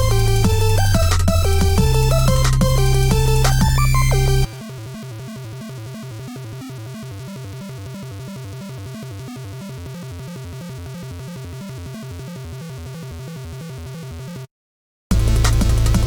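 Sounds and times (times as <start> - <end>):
electronic music with rhythmic beat: 0.0 - 14.3, 15.1 - 16.0.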